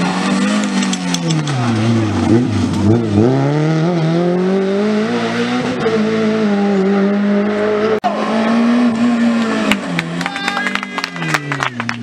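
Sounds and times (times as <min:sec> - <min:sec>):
another car engine: 0:00.0 - 0:12.0
rally car engine revving: 0:00.0 - 0:12.0.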